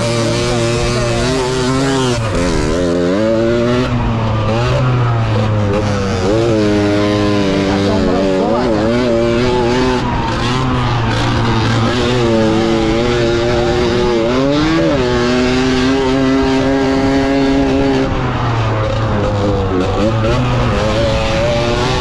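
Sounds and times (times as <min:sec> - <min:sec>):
moped engine revving high: 0:00.0 - 0:22.0.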